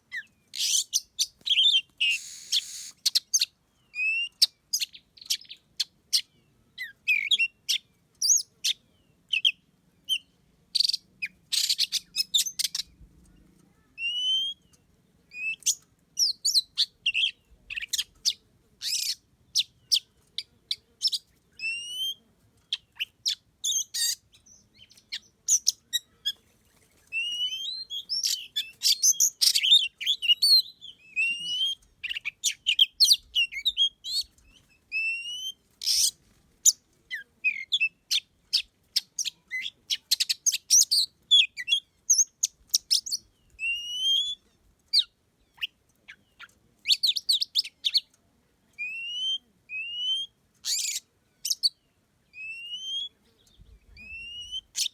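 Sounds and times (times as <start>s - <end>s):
birds whistling and chirping: 0.1s - 13.0s, 14.0s - 20.1s, 21.0s - 36.8s, 37.5s - 48.1s, 48.8s - 54.9s.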